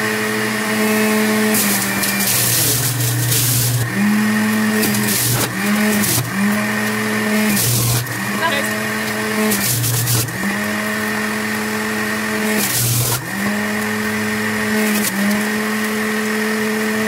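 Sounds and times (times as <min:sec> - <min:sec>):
carrot grinding in juicer: 0:00.0 - 0:17.0
juicer motor humming: 0:00.0 - 0:17.0.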